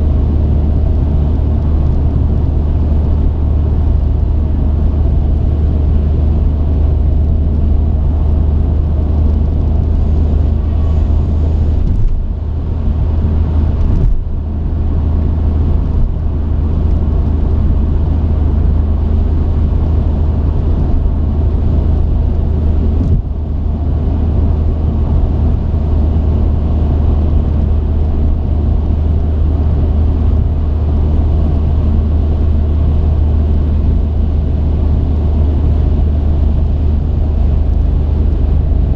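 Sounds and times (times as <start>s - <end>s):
truck engine and road drone: 0.0s - 38.9s.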